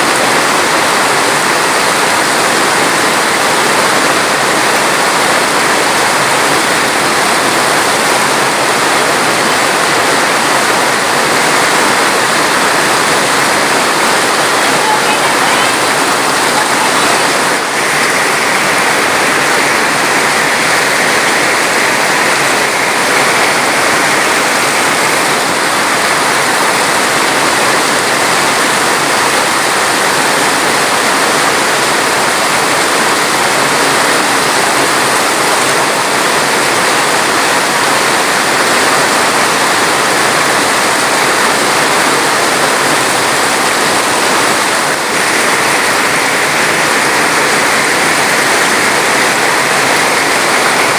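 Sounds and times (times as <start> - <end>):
rushing water hiss: 0.0 - 50.9.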